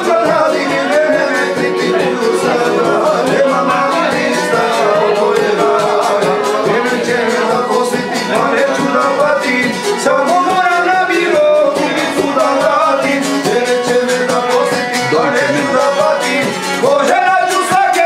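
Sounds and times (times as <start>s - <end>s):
men singing folk song: 0.0s - 18.0s.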